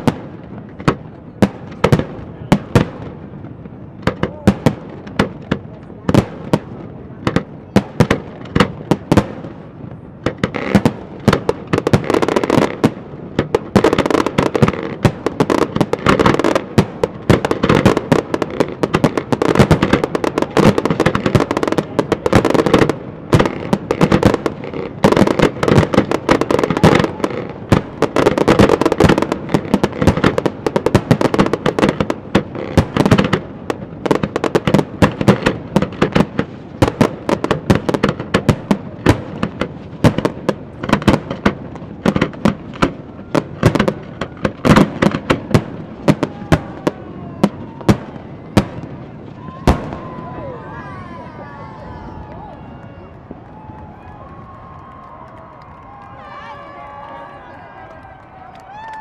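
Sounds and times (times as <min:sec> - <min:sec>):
fireworks crackling: 0:00.0 - 0:59.0.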